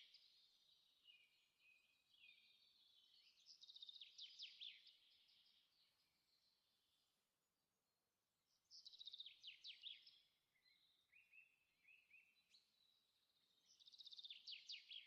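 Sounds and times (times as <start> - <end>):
songbird singing trills: 0.0 - 6.5, 8.7 - 15.0.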